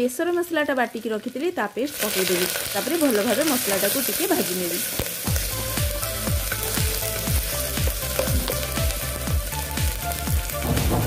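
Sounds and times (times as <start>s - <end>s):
paste sizzling in hot oil: 0.2s - 10.8s.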